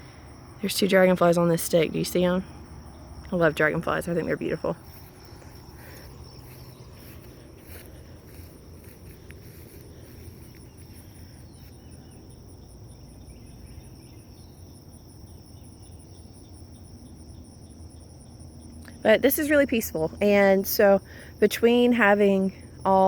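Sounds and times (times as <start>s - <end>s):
faint low rumble: 0.0s - 19.0s
insects trilling in chorus: 0.0s - 23.0s
rapidly pulsing insect trill: 0.0s - 23.0s.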